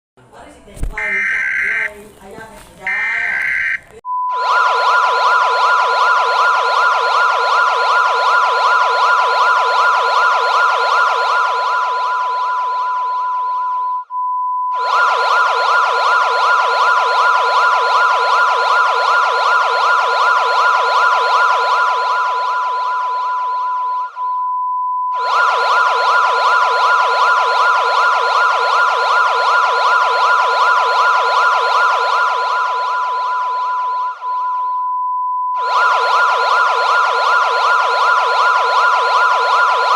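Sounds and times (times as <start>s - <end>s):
wavering siren-like tone: 1.0s - 1.9s, 2.9s - 39.9s
steady alarm tone: 1.0s - 2.0s, 2.9s - 39.9s.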